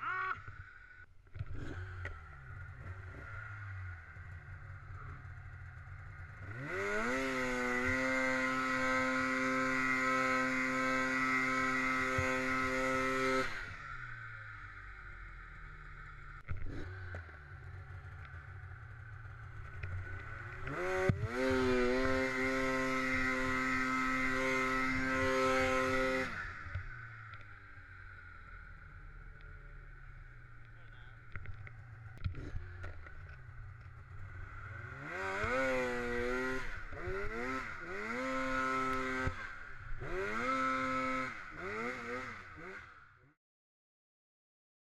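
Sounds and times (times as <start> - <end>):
snowmobile engine: 0.0 - 43.3.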